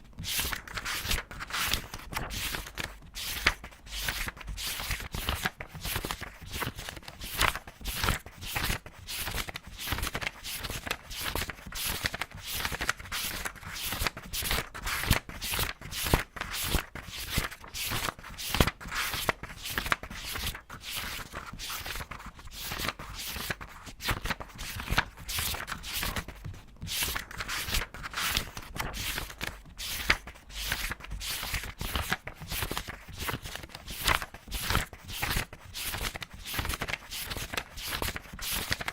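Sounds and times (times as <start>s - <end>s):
paper pages turning quickly: 0.1s - 38.9s.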